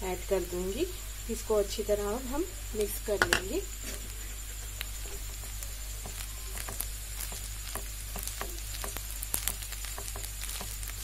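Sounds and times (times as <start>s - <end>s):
rice sizzling in pan: 0.0s - 11.0s.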